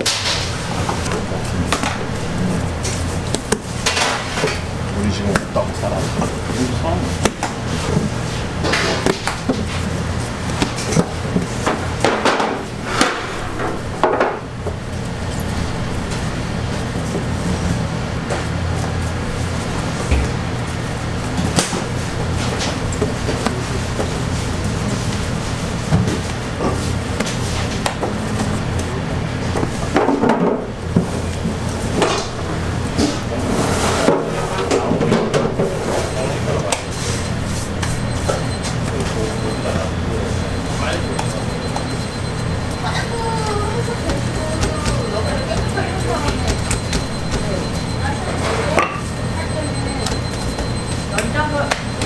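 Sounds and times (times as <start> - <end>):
kitchen equipment hum: 0.0 - 52.0.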